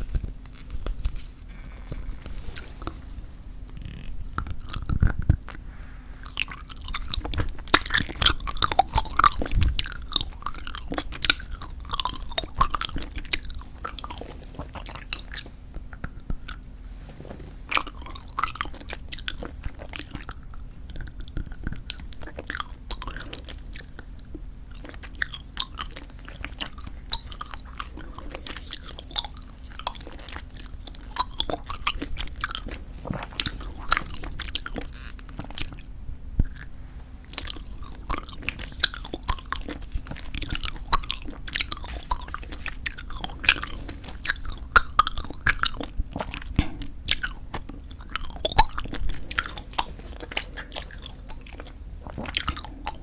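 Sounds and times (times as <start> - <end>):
gum chewing mouth smacks: 3.7 - 5.6, 6.2 - 16.7, 17.7 - 53.0.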